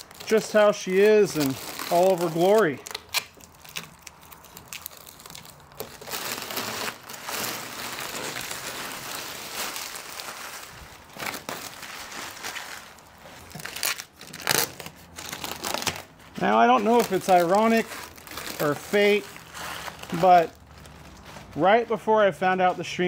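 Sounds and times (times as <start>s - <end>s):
plastic film crinkling: 0.0s - 23.0s.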